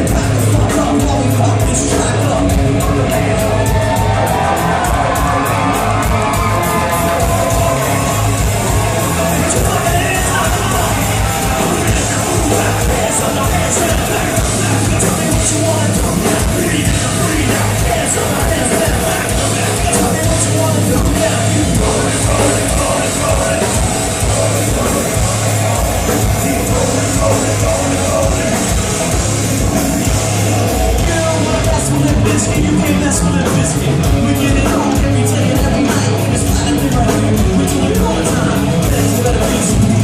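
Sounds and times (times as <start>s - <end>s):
live rap-metal band playing: 0.0s - 40.0s.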